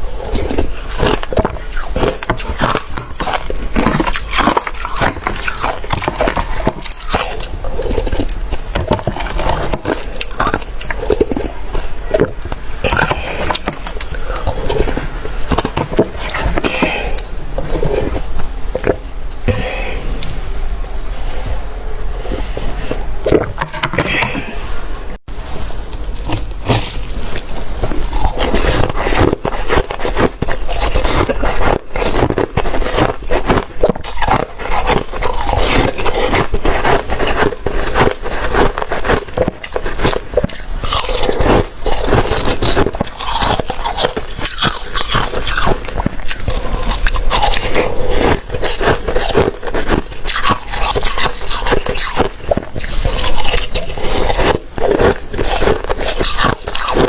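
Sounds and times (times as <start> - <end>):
slushy ice being chewed: 0.0 - 20.4, 22.2 - 24.6, 25.4 - 57.0.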